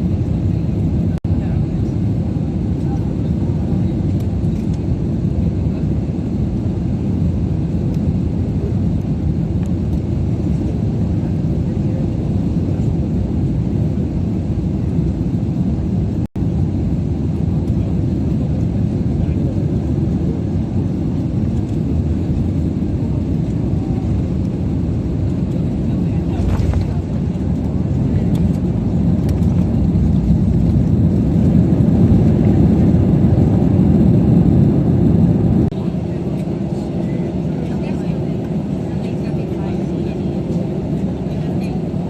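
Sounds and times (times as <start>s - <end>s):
airliner cabin engine rumble: 0.0s - 42.0s.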